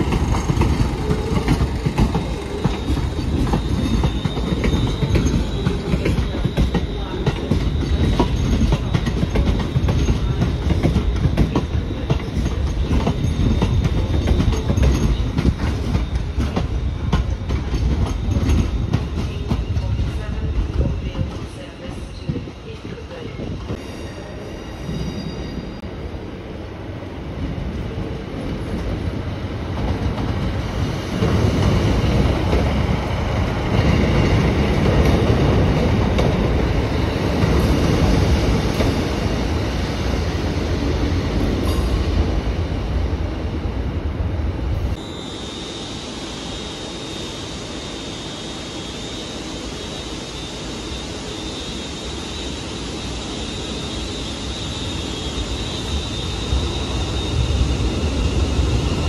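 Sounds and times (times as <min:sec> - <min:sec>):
electric train hum: 0:00.0 - 0:23.9, 0:25.6 - 0:59.0
train wheels rumbling and squealing: 0:00.0 - 0:59.0.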